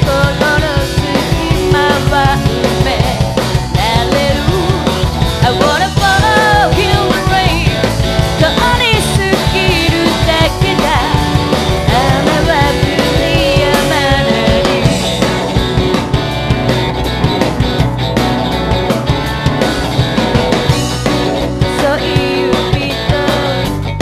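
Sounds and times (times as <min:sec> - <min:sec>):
live rock band music: 0:00.0 - 0:24.0
pitch-bending lead guitar line: 0:00.0 - 0:24.0.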